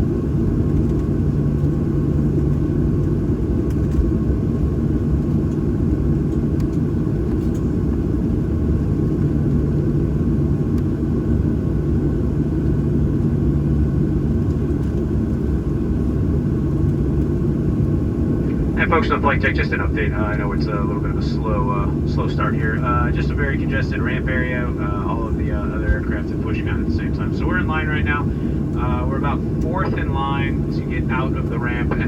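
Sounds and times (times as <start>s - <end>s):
steady low hum: 0.0s - 32.0s
jet engines idling: 0.2s - 32.0s.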